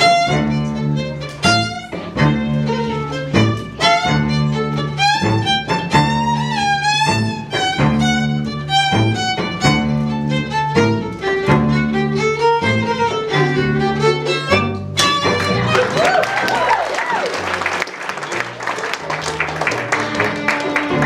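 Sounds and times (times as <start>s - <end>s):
violin melody with vibrato: 0.0s - 15.9s, 18.4s - 21.0s
string ensemble playing: 0.0s - 21.0s.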